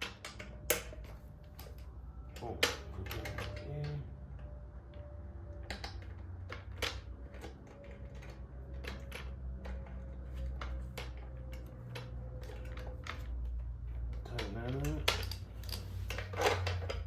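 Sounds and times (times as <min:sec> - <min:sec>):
metal parts clicking and knocking: 0:00.0 - 0:17.0.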